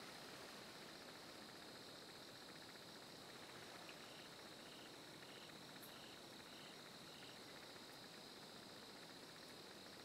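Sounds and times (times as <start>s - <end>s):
crickets and insects chorus: 0.0s - 10.0s
repeating insect chirp: 0.8s - 10.0s.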